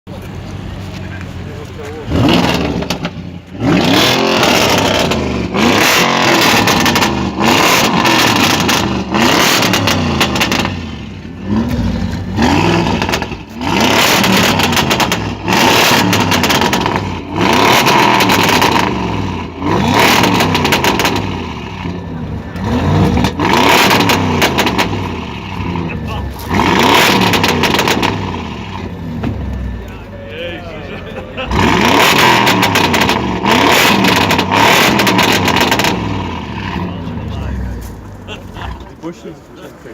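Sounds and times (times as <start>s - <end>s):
exhaust pops and crackles: 0.1s - 10.8s, 11.4s - 30.1s, 31.8s - 39.9s
car engine revving: 0.2s - 39.1s.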